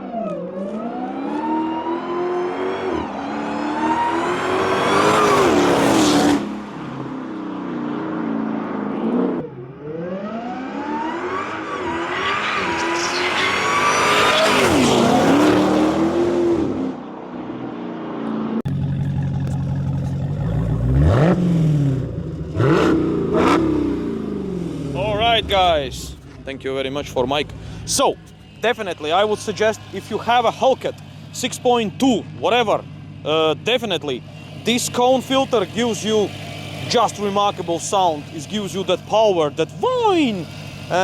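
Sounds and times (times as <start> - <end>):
car engine revving: 0.0 - 41.0
supercharger whine: 0.0 - 41.0.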